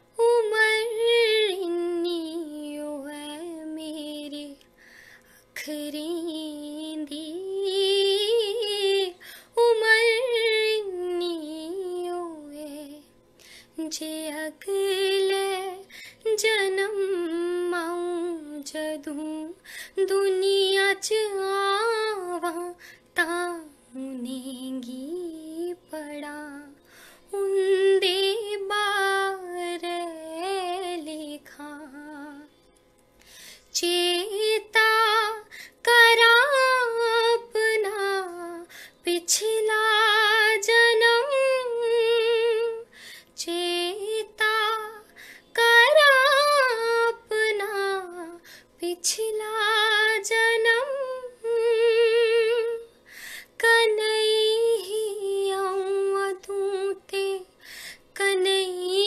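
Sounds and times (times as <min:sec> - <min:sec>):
woman singing unaccompanied: 0:00.0 - 0:04.6, 0:05.5 - 0:13.1, 0:13.8 - 0:32.6, 0:33.7 - 0:59.0.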